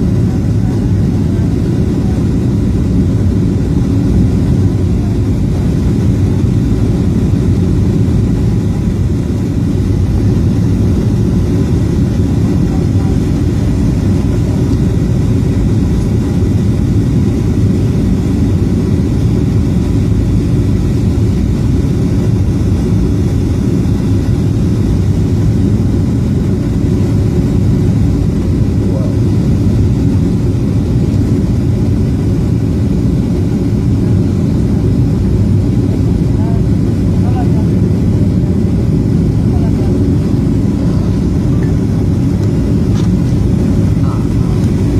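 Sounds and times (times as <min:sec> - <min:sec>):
jet engines rumbling: 0:00.0 - 0:44.9
rushing air in cabin: 0:00.0 - 0:44.9.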